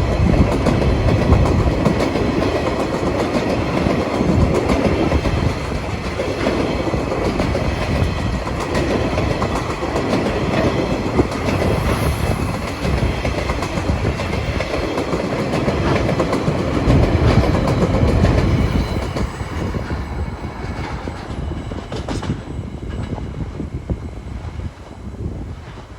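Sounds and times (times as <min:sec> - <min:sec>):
wheels clacking over rail joints: 0:00.2 - 0:23.2.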